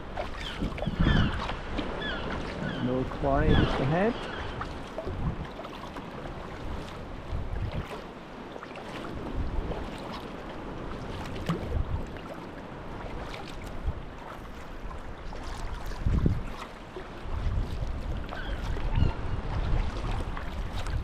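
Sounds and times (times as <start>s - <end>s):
paddle splashing in water: 0.0s - 21.0s
water washing along hull: 0.0s - 21.0s.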